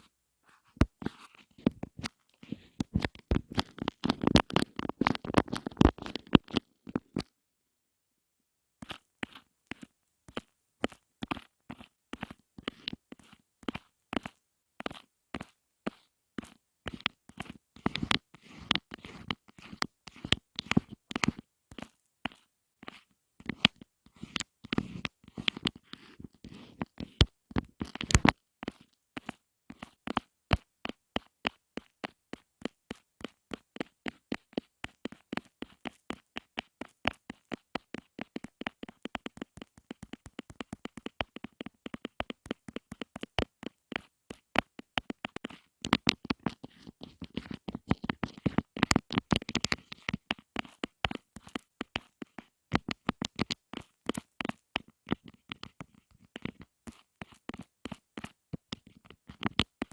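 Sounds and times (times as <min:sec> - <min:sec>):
soft scratchy rustling: 0:00.0 - 0:07.3, 0:08.8 - 0:59.9
rapid tapping and clicks: 0:00.8 - 0:07.3, 0:08.8 - 0:59.9.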